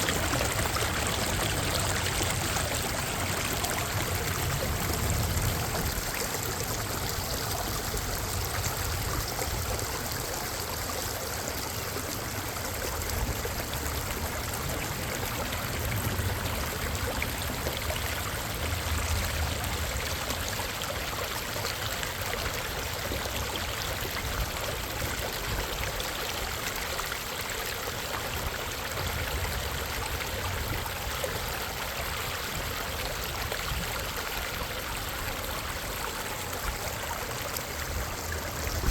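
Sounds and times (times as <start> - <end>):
creek water rushing and splashing: 0.0 - 38.9.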